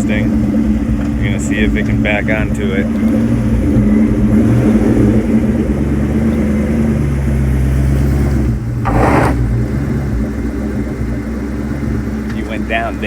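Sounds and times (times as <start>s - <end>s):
car engine at low revs: 0.0s - 13.0s
ramp scraping: 0.0s - 13.0s.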